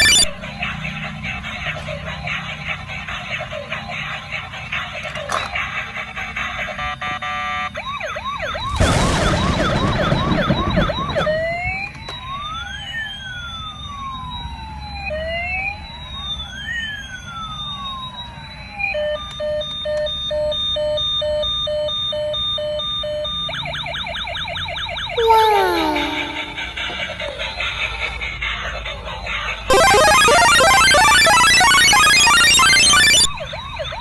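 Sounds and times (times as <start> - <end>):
toy electronic siren: 0.0 - 27.2, 29.7 - 34.0.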